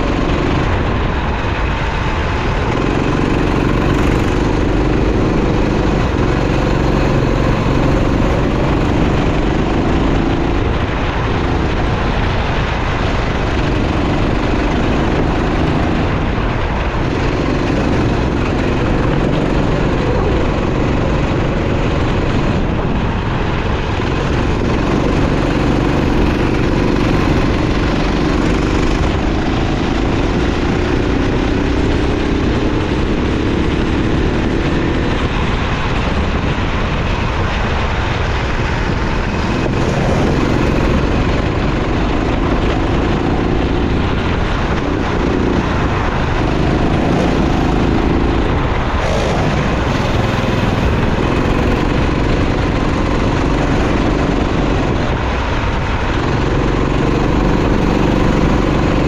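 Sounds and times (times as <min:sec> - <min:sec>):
racing kart engine revving: 0:00.0 - 0:59.0.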